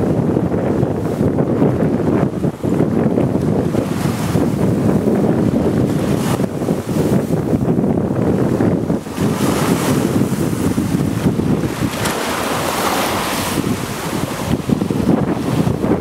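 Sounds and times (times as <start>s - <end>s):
waves washing onto shore: 0.0s - 16.0s
wind buffeting microphone: 0.0s - 16.0s.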